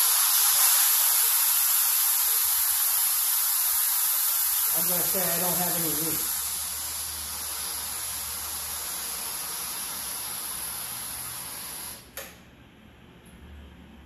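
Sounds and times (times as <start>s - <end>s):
steady hiss: 0.0s - 12.1s.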